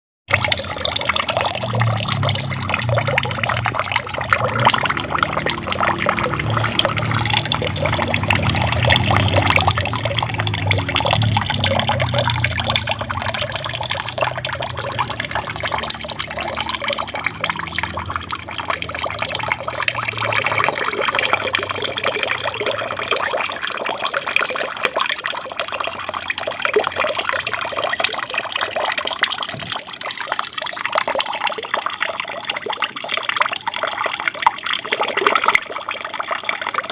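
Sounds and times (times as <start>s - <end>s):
water trickling and splashing: 0.3s - 36.9s.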